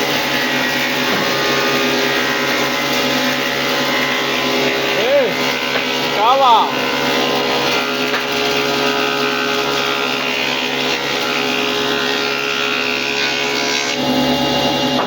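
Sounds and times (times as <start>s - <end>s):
motor droning hum: 0.0s - 13.2s.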